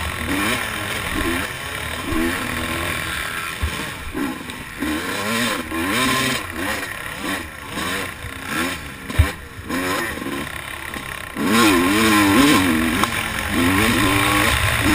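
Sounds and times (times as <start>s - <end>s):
motocross bike engine revving: 0.0s - 14.9s.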